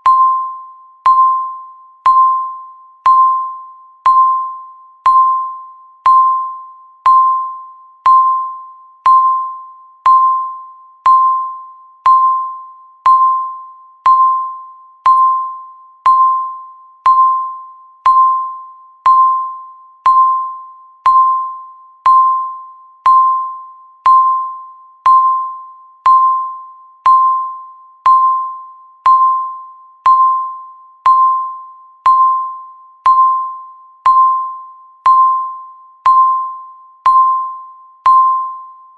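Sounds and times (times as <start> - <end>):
countdown timer beeps: 0.0 - 38.9.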